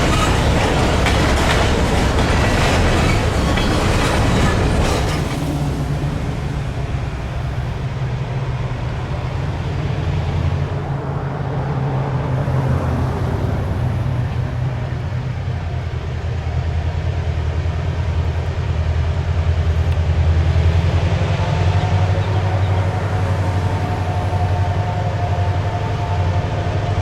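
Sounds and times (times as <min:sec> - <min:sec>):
diesel locomotive engine drone: 0:00.0 - 0:27.0.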